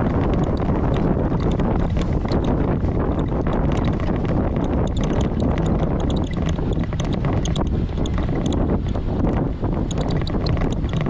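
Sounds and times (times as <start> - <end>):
engine and tyres rumbling: 0.0 - 11.0
small clicks and knocks: 0.0 - 11.0
wind on microphone: 0.0 - 11.0.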